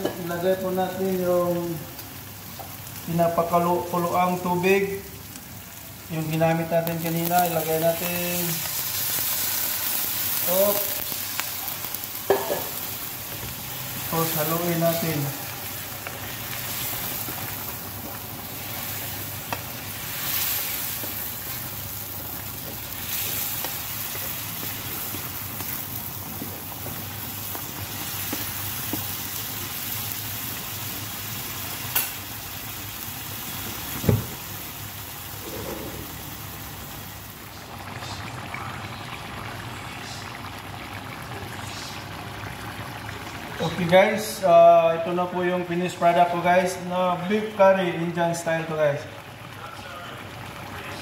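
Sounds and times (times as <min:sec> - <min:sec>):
curry sizzling and bubbling in pan: 0:00.0 - 0:51.0.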